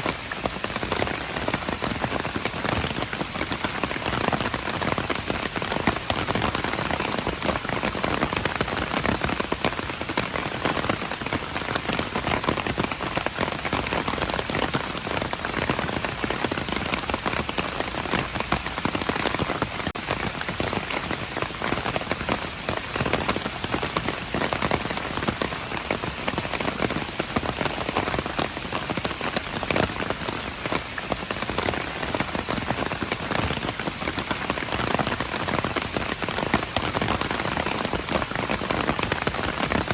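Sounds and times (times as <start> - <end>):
rain pattering on hard surfaces: 0.0 - 39.9.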